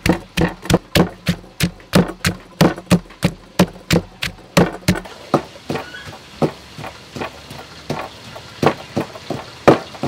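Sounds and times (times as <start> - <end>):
wooden pestle pounding in mortar: 0.0 - 10.0.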